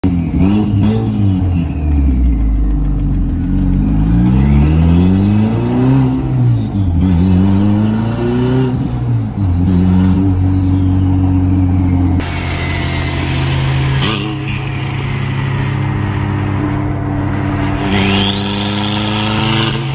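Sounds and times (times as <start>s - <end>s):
car engine accelerating hard: 0.0s - 19.9s.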